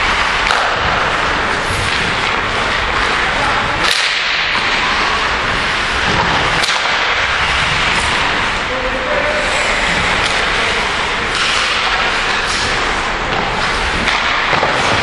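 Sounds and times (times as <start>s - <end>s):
hockey stick or puck crack: 0.0s - 8.7s, 9.6s - 15.0s
ice rink noise hiss: 0.0s - 15.0s.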